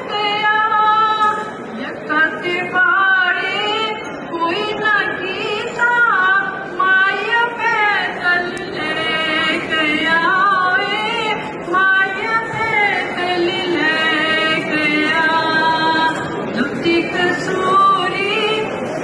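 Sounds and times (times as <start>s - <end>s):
woman singing unaccompanied: 0.0s - 18.8s.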